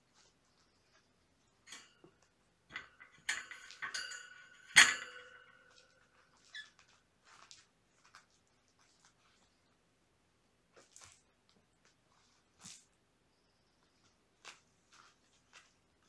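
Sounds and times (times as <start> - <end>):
soft rustling: 0.0 - 9.9, 10.7 - 16.0.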